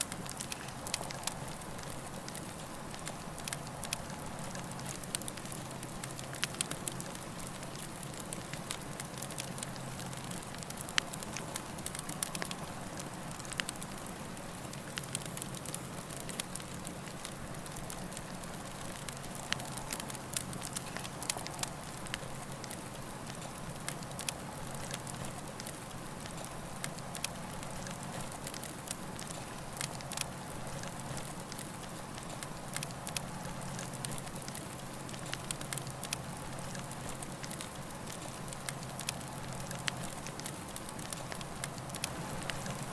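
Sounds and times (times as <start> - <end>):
campfire crackling: 0.0 - 42.9.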